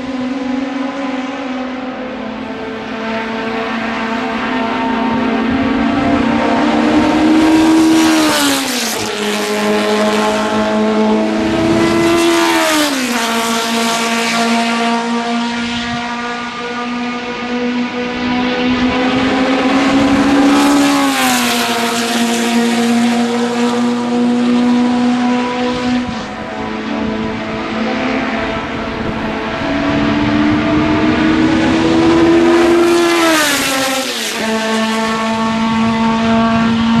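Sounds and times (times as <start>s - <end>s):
race car engines revving high: 0.0s - 37.0s.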